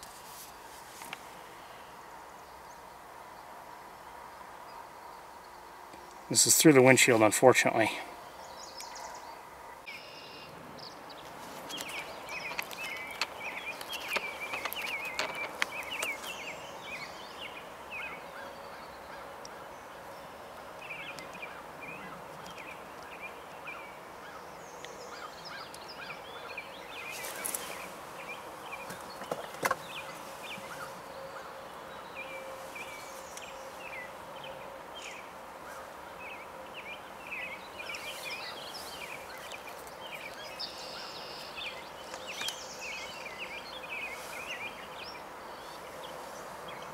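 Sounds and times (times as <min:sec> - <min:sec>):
birds calling and chattering: 0:00.0 - 0:46.9.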